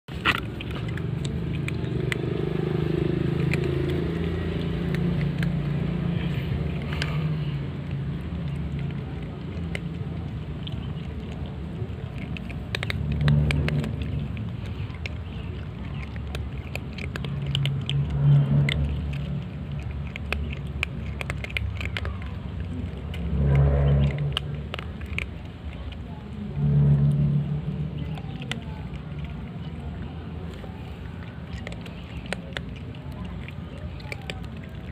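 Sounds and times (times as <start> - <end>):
cats crunching dry kibble: 0.1 - 34.9
low motor hum: 0.1 - 34.9
steady low rumble: 0.1 - 34.9.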